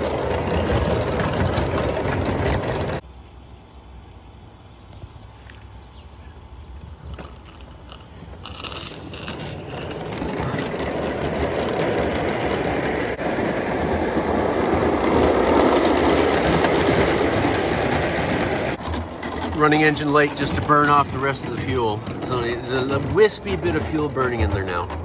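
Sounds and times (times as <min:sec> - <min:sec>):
train wheels rumbling on rail: 0:00.0 - 0:03.0, 0:07.1 - 0:25.0.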